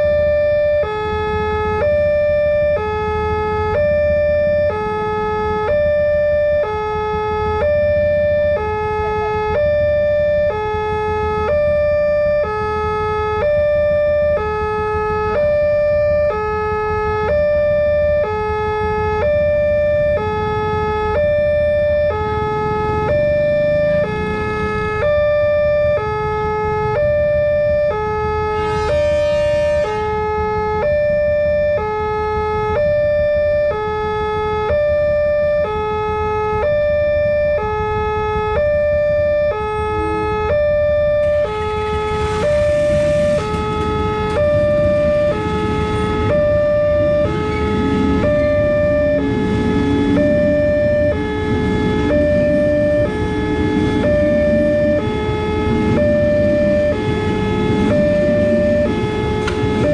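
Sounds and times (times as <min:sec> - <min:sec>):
road traffic rumble: 0:00.0 - 0:59.9
two-tone level-crossing alarm: 0:00.0 - 0:59.9.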